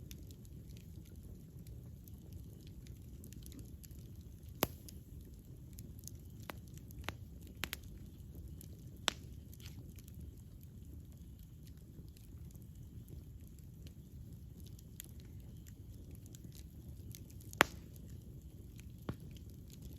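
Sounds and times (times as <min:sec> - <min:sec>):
campfire burning: 0:00.0 - 0:19.9
fire crackling and popping: 0:00.0 - 0:19.9.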